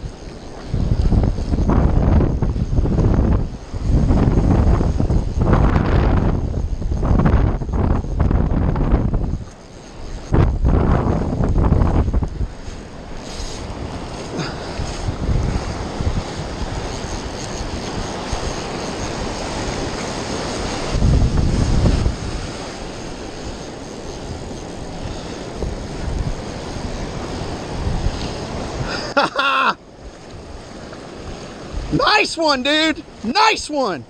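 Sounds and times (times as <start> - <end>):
surf washing onto beach: 0.0 - 34.0
wind buffeting microphone: 0.0 - 34.0.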